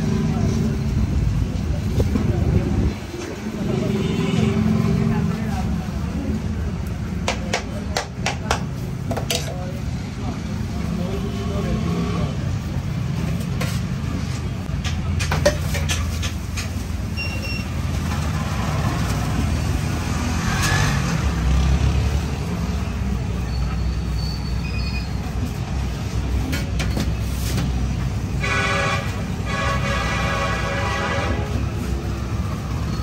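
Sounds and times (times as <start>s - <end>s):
traffic engines rumbling: 0.0s - 33.0s.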